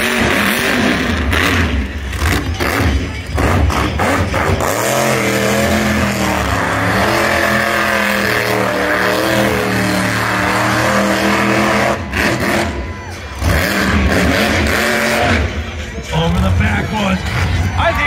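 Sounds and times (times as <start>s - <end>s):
monster truck engine running: 0.0s - 18.0s.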